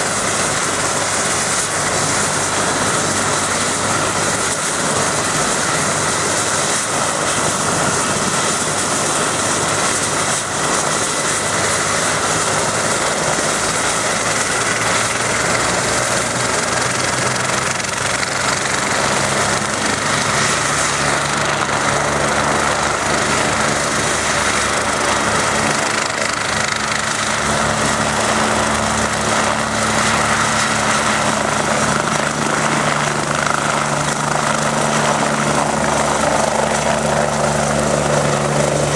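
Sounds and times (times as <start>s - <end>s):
helicopter turbine whine and rotors: 0.0s - 38.9s.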